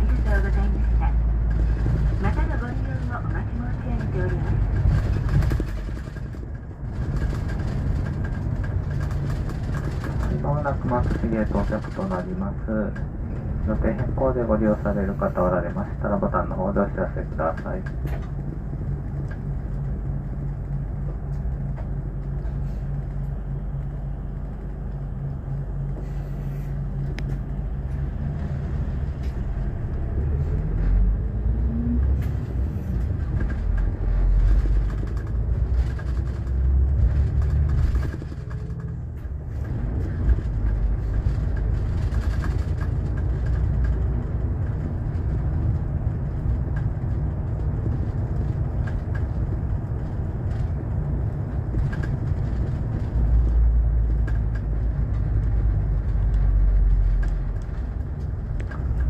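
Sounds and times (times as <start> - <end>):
bus diesel engine: 0.0 - 59.0
road noise inside vehicle: 0.0 - 59.0.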